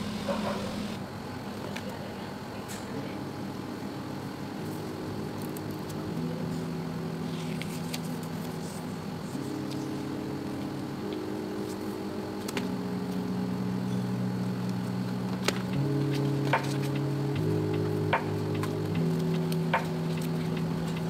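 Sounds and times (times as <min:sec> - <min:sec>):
slow held chords: 0:03.2 - 0:21.0.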